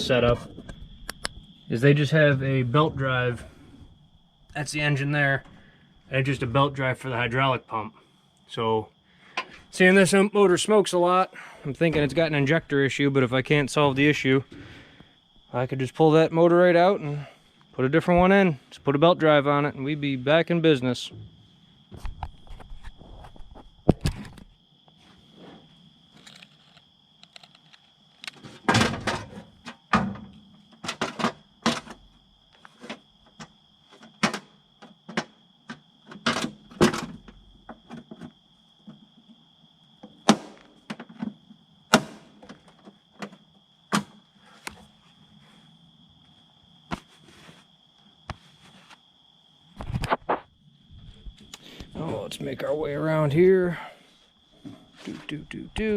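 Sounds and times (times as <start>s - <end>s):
crickets trilling: 0.0s - 55.9s.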